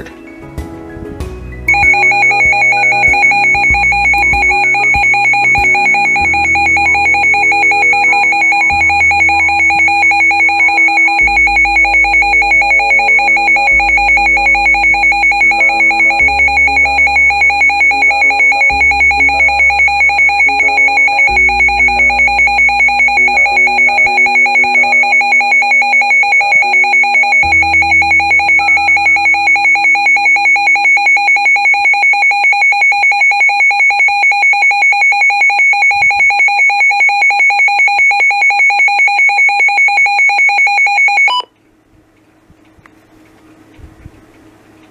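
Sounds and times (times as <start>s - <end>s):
pulsing high-pitched alarm tone: 1.7s - 41.5s.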